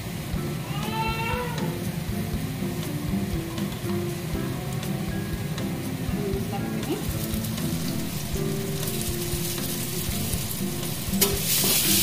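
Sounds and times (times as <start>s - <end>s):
spice mix sizzling in hot oil: 1.7s - 12.0s.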